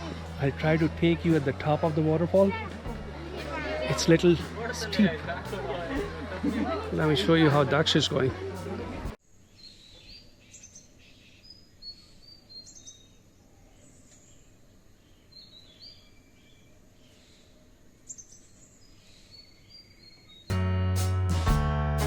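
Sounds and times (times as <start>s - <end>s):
faint outdoor background noise: 0.0s - 22.0s.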